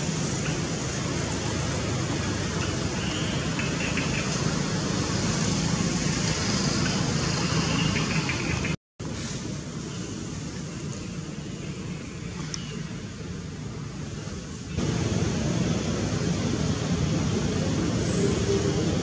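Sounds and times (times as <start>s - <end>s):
outdoor background rush: 0.0s - 19.0s.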